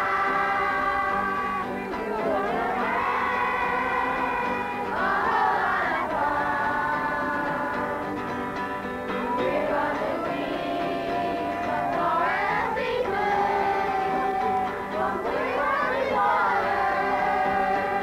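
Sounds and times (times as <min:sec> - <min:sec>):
children's choir singing: 0:00.0 - 0:08.4, 0:09.2 - 0:18.0.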